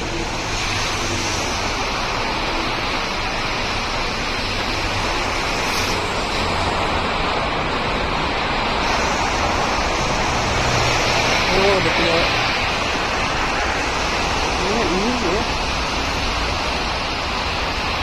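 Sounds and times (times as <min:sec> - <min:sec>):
city traffic roar: 0:00.0 - 0:18.0.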